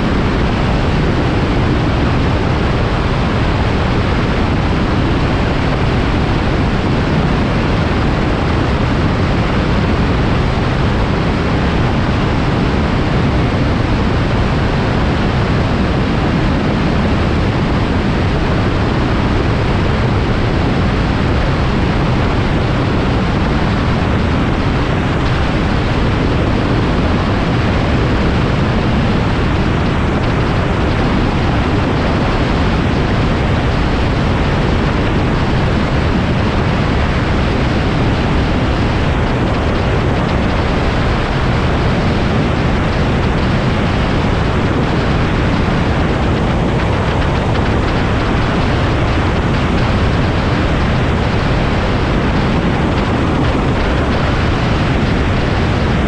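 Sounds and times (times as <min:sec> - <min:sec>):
microlight aircraft wind and engine: 0:00.0 - 0:56.0.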